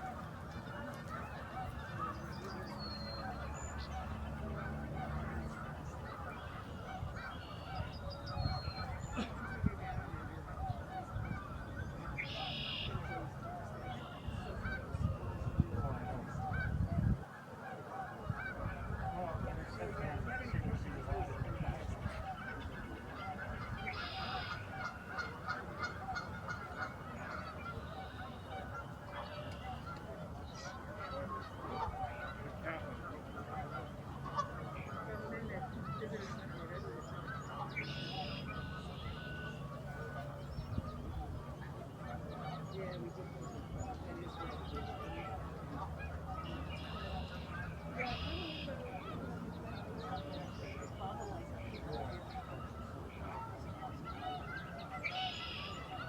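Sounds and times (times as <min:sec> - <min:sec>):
geese honking: 0:00.0 - 0:56.0.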